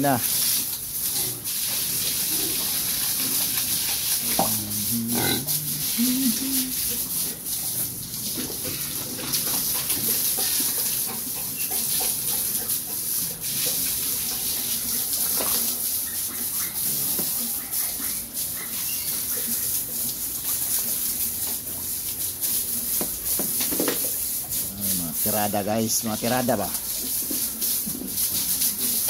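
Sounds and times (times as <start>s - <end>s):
hose spraying water: 0.0s - 29.0s.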